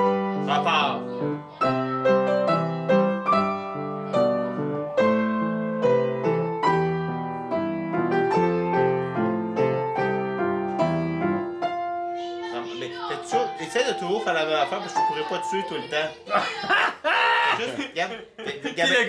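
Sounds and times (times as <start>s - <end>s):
upright piano playing: 0.0s - 16.6s.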